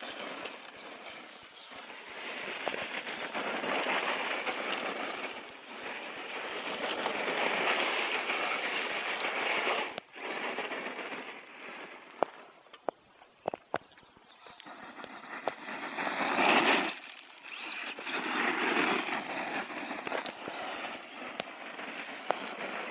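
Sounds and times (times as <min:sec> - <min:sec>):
gravel crunching under tyres: 0:00.0 - 0:22.9.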